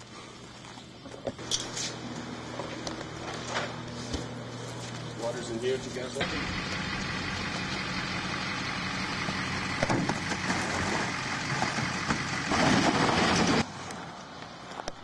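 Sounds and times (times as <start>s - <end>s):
car engine running: 1.4s - 13.6s.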